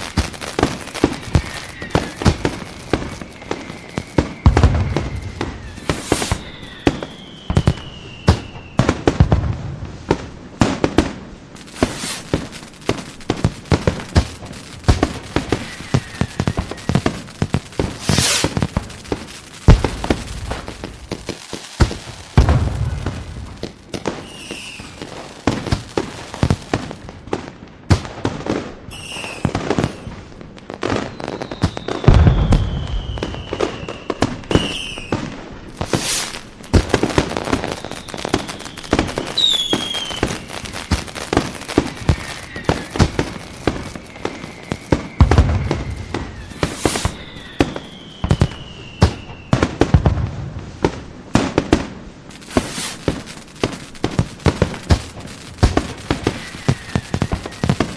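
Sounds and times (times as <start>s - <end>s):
whistling shells: 0.0s - 9.0s, 11.6s - 26.8s, 28.9s - 30.2s, 30.9s - 49.8s, 52.4s - 57.9s
fireworks booms: 0.0s - 57.9s
fireworks popping and crackling: 0.0s - 57.9s.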